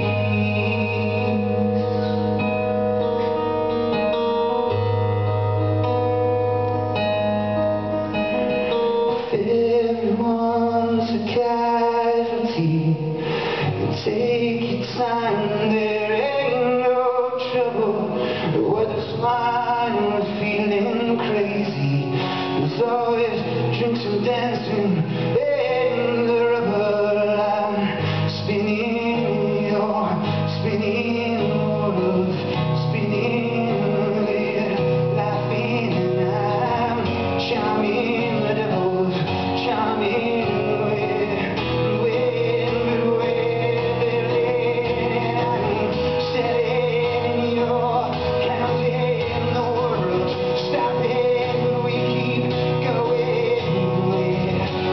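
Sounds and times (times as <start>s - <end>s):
man singing: 0.0s - 4.8s, 8.6s - 54.9s
strummed acoustic guitar: 0.0s - 54.9s.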